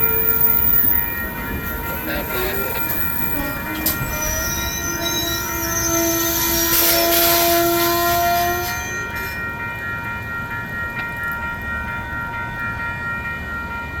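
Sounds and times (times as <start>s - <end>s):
steady ringing tone: 0.0s - 14.0s
train rumbling past: 0.0s - 14.0s.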